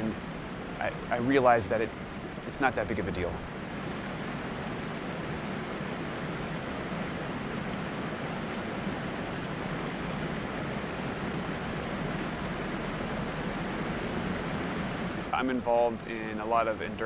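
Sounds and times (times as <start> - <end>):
rushing river: 0.0 - 17.0
weir waterfall: 0.0 - 17.0.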